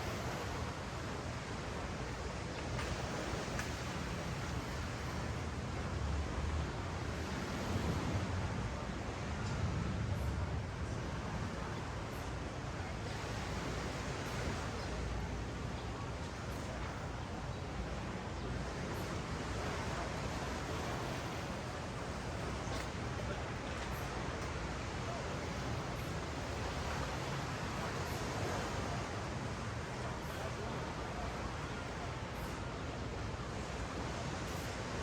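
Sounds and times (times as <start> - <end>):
ocean surf on sandy beach: 0.0 - 35.0.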